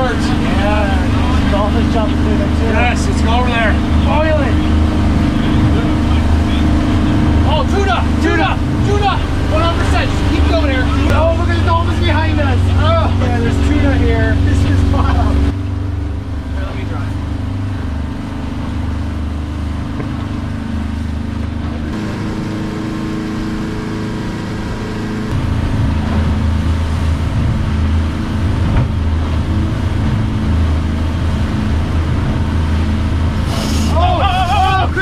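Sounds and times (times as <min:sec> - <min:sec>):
outboard motor running: 0:00.0 - 0:35.0
water rushing along hull: 0:00.0 - 0:35.0.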